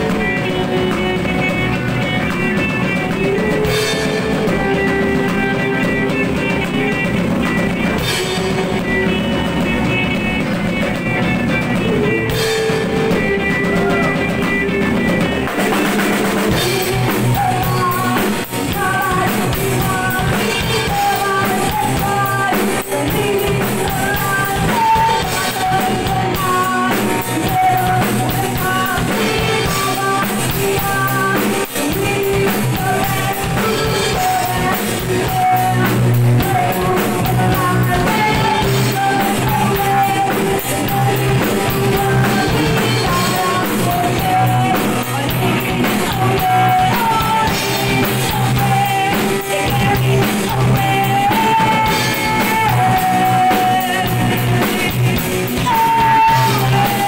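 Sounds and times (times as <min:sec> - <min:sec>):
gothic metal music: 0:00.0 - 0:57.0.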